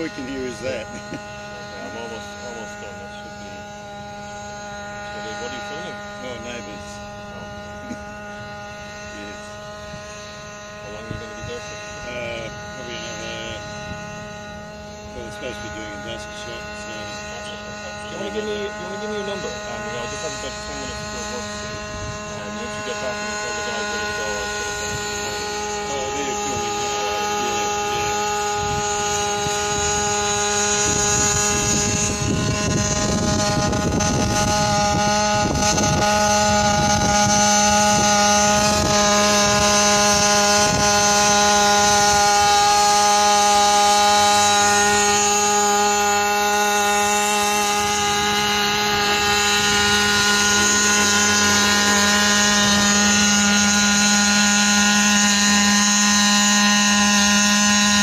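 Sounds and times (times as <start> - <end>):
drone humming in flight: 0.0 - 58.0.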